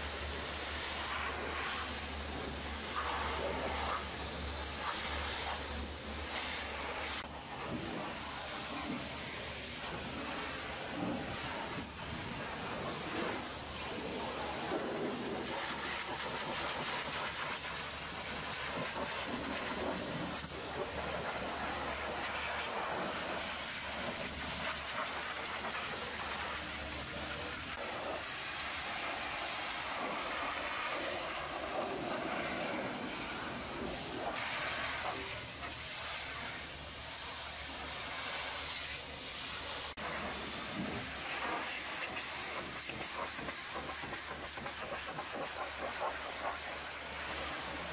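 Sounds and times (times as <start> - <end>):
pressure washer spray hissing on metal: 0.0 - 47.9.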